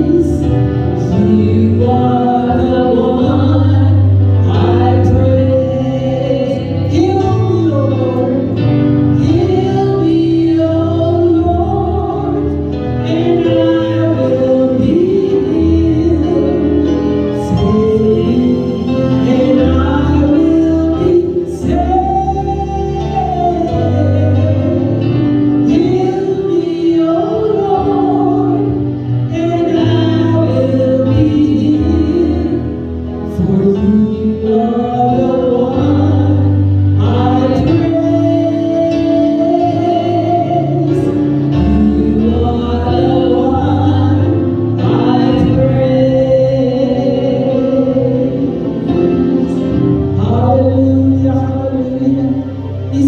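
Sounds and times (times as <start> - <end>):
instrumental backing with bass: 0.0 - 53.0
voices singing gospel song: 0.0 - 53.0.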